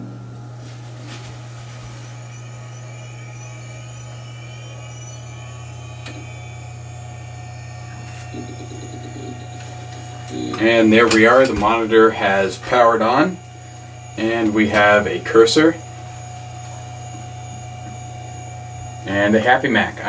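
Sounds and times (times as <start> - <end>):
computer fan humming: 0.0 - 20.0
faint high whines rising: 0.0 - 20.0.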